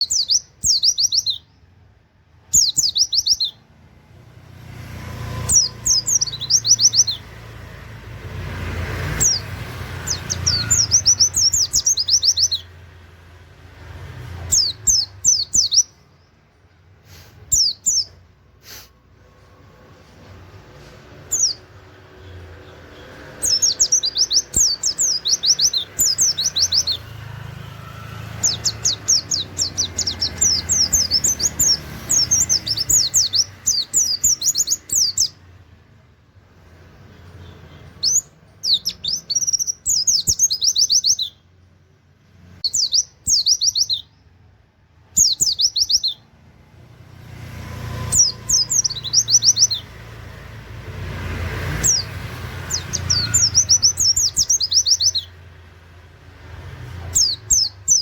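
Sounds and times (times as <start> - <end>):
bird singing rapid falling notes: 0.0 - 3.7, 4.3 - 16.7, 17.4 - 18.3, 20.5 - 35.6, 36.8 - 41.6, 42.2 - 44.4, 45.0 - 46.4, 47.4 - 58.0.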